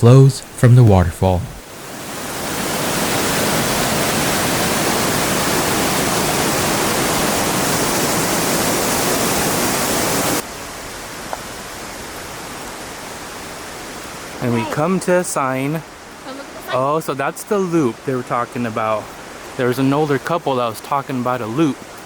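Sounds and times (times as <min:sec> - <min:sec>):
creek water rushing: 0:01.6 - 0:22.0.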